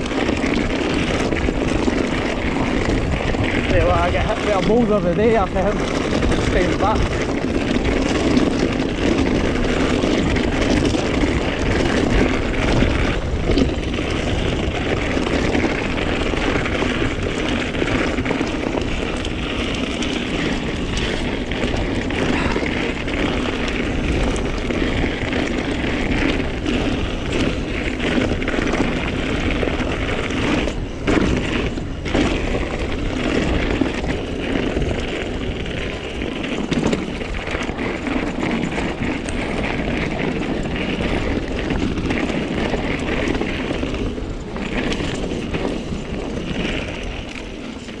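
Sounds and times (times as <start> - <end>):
bike tyres rolling on rough ground: 0.0 - 48.0
wind rush on microphone: 0.0 - 48.0.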